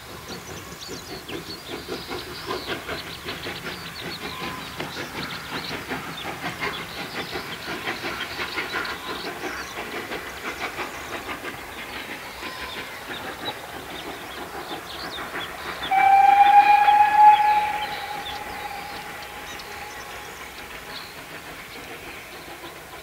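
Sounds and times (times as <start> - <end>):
steam hiss: 0.0 - 23.0
steam locomotive exhaust chuffs: 0.0 - 23.0
train wheels on rails: 0.0 - 23.0.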